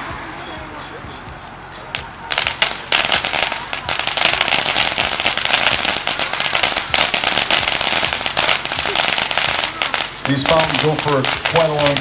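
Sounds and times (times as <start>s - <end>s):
fountain firework crackling: 0.0s - 12.0s.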